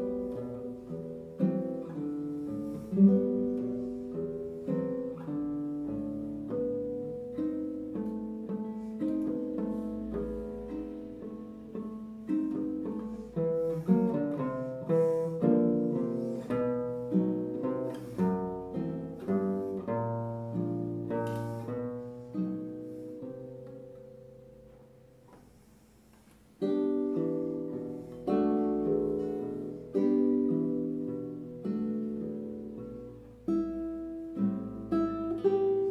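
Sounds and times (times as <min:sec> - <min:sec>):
nylon-string guitar solo: 0:00.0 - 0:35.9.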